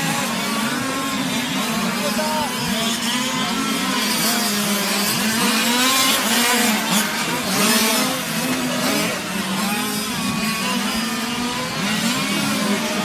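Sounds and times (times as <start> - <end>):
rc car engines buzzing: 0.0 - 13.0.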